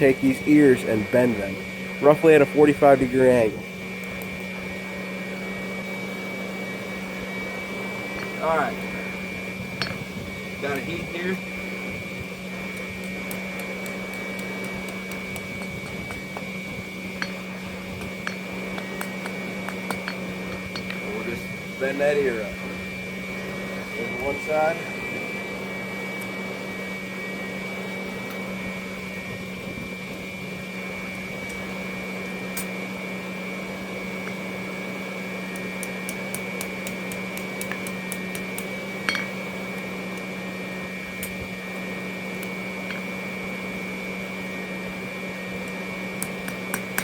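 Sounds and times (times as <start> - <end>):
electric blower humming: 0.0 - 47.0.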